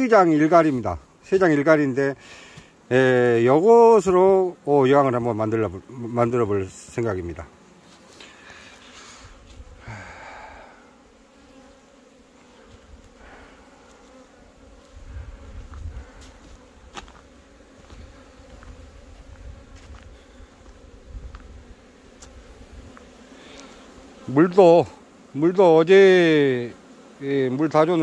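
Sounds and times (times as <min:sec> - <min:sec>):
bees buzzing: 0:00.0 - 0:28.0.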